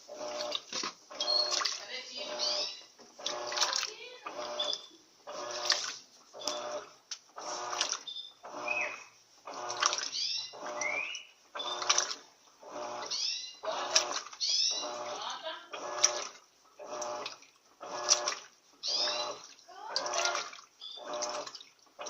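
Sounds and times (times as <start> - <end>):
washing machine motor whirring: 0.0 - 22.0
water sloshing in drum: 0.0 - 22.0.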